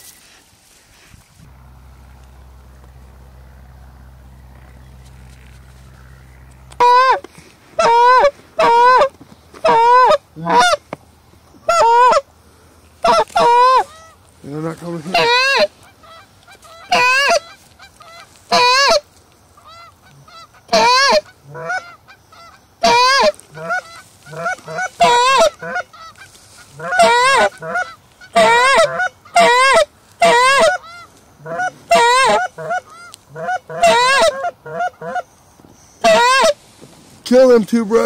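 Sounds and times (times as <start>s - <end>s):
geese honking: 1.5s - 10.8s, 11.6s - 12.3s, 13.0s - 36.6s.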